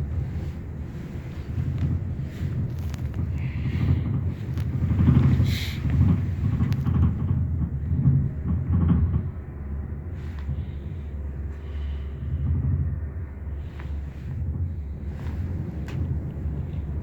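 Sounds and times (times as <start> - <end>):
blizzard wind rumbling in gusts: 0.0 - 17.0
light knocks and rattles: 0.0 - 17.0.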